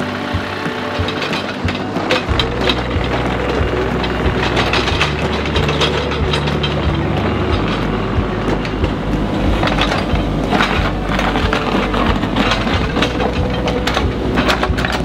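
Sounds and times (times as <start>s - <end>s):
diesel engine running: 0.0s - 15.0s
tracks clanking and rattling: 0.0s - 15.0s.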